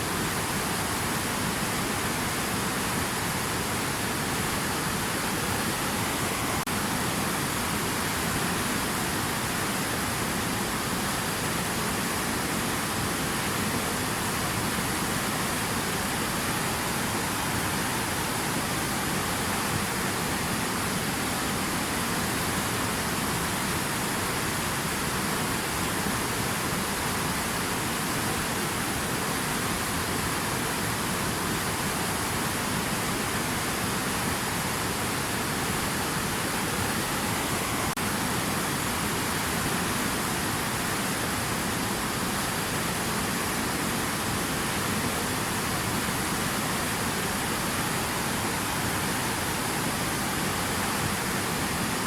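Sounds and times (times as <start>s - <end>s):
steady water hiss: 0.0s - 52.0s.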